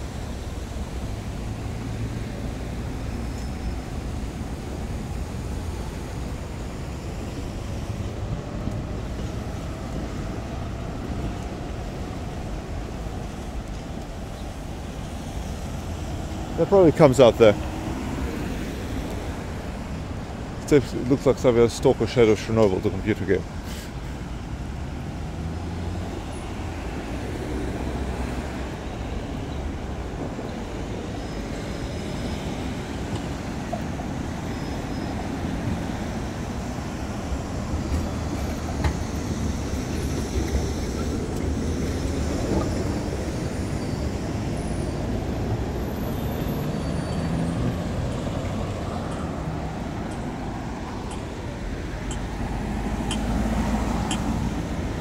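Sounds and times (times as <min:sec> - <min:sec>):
rumble of passing traffic: 0:00.0 - 0:55.0.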